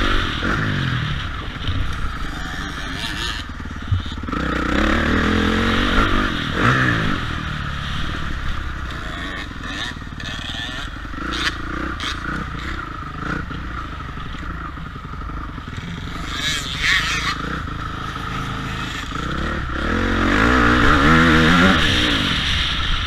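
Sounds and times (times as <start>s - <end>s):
motorbike engine revving: 0.0s - 23.0s.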